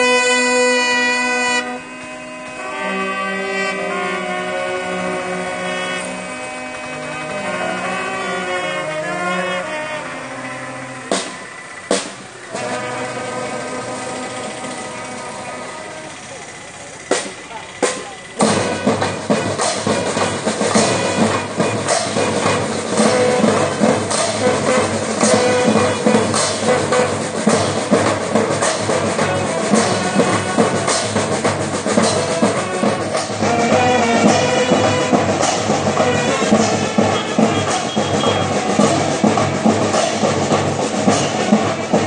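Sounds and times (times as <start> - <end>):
brass band playing a march: 0.0 - 42.0
steady drum beat: 0.0 - 42.0.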